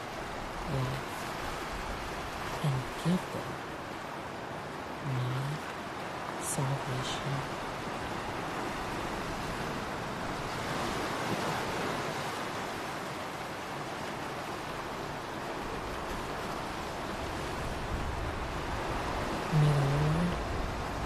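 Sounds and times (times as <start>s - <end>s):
ocean waves washing in: 0.0s - 21.0s.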